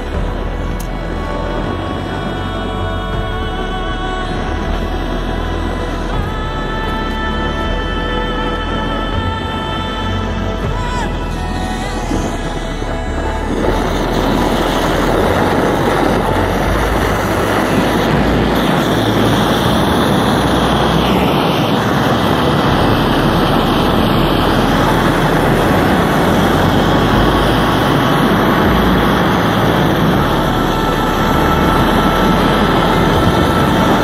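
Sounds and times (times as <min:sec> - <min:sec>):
gas torch burner hissing: 0:00.0 - 0:34.0.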